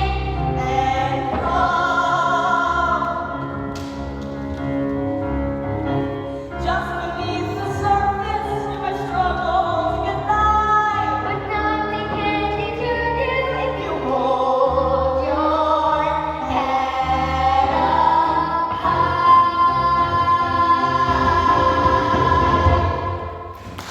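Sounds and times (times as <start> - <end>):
voices singing with accompaniment: 0.0 - 4.4, 6.8 - 23.7.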